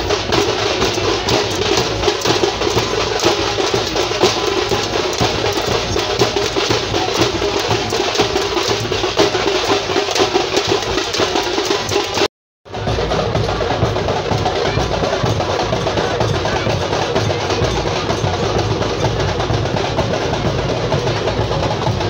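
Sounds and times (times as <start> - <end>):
dhol drums beaten with sticks: 0.0 - 22.0.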